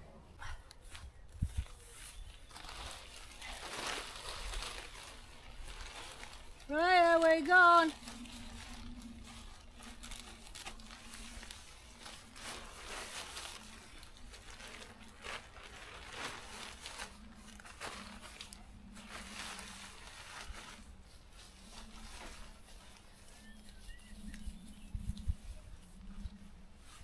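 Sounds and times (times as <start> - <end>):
tent fabric rustling: 0.4 - 27.0.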